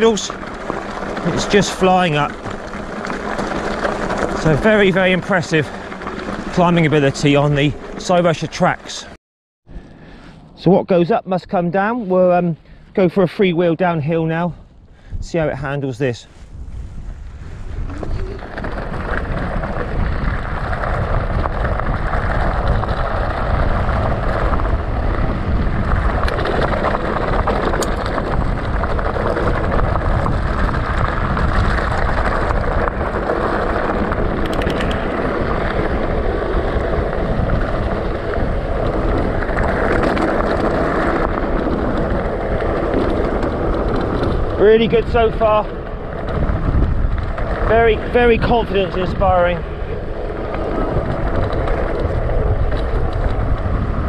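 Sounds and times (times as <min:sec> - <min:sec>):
tyres rolling over gravel: 0:00.0 - 0:09.1, 0:15.4 - 0:54.0
wind rushing over microphone: 0:00.0 - 0:54.0.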